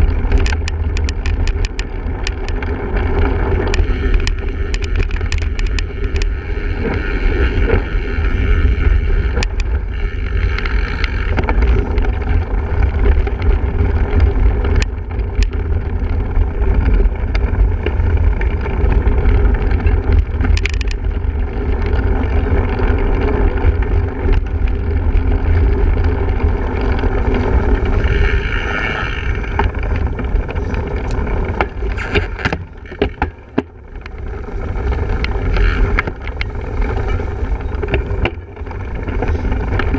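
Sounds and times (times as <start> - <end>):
bike riding noise: 0.0 - 39.9
clicks and rattles from rough ground: 0.0 - 39.9
wind buffeting microphone: 0.0 - 39.9.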